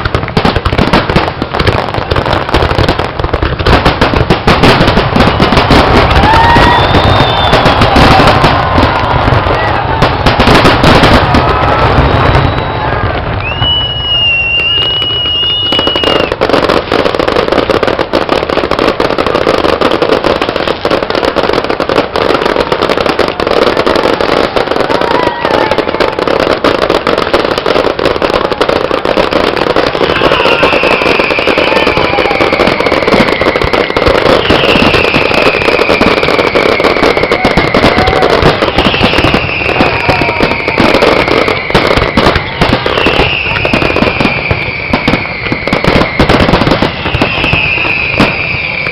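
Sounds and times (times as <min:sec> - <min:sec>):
fireworks bangs and crackling: 0:00.0 - 0:48.9
falling firework whistles: 0:00.1 - 0:21.3, 0:22.1 - 0:48.9.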